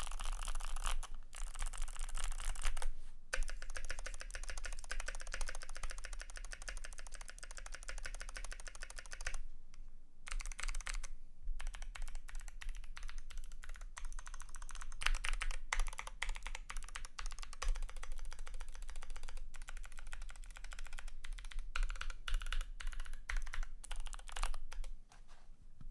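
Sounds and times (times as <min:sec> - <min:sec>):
mechanical keyboard typing: 0:00.0 - 0:09.4, 0:10.3 - 0:24.9.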